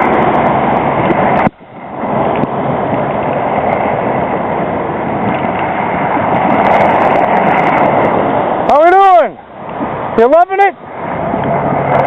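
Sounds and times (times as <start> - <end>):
vehicle driving on snowy street: 0.0 - 12.0.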